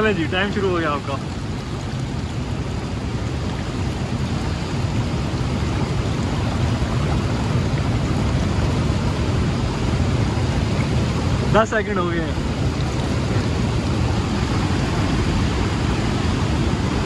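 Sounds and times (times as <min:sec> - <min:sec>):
fast stream rushing: 0:00.0 - 0:17.0.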